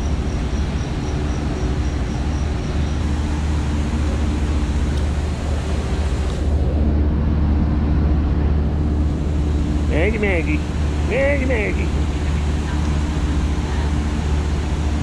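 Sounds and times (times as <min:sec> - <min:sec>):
ferry engines droning: 0:00.0 - 0:15.0.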